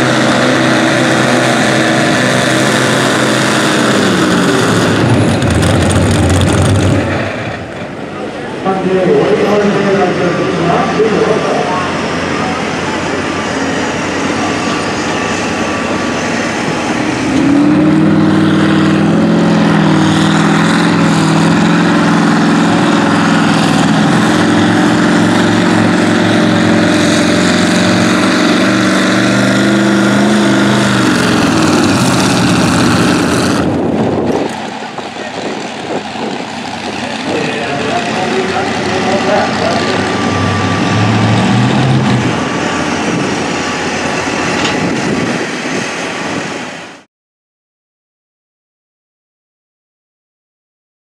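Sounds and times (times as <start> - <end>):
pulling tractor engines roaring: 0.0 - 47.1.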